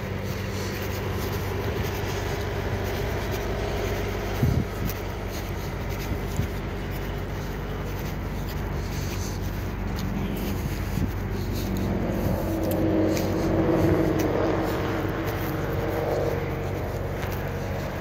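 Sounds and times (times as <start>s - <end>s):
low hum of motor vehicles: 0.0s - 18.0s.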